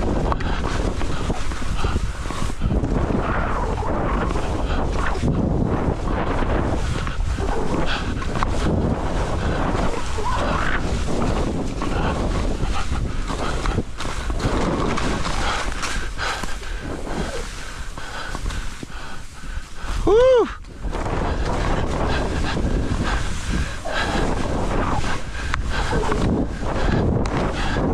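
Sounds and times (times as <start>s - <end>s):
skis carving through snow: 0.0s - 27.9s
wind buffeting microphone: 0.0s - 27.9s.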